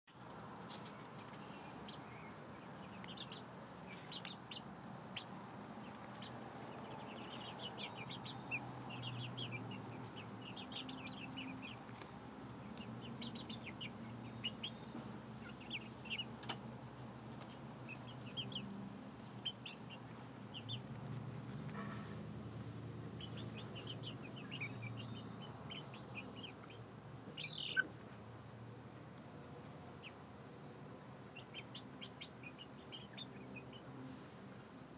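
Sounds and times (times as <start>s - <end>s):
chicks peeping: 0.2s - 22.2s, 22.9s - 28.2s, 29.0s - 34.0s.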